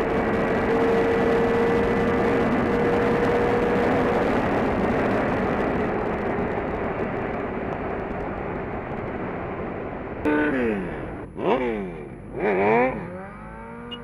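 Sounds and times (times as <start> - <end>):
wind rushing over microphone: 0.0 - 13.0
motorcycle engine running: 0.0 - 14.0.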